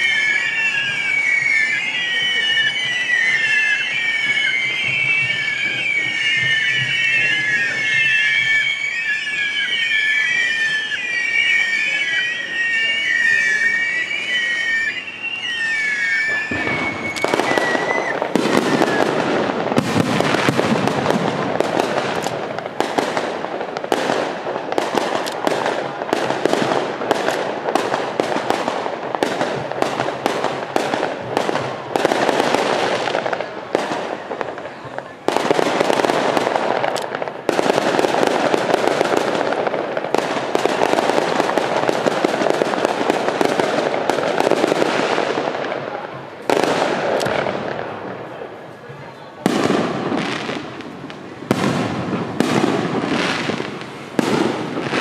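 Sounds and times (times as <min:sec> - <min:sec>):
crackling aerial firework bursts: 0:00.0 - 0:55.0
whistling firework rockets: 0:00.0 - 0:55.0.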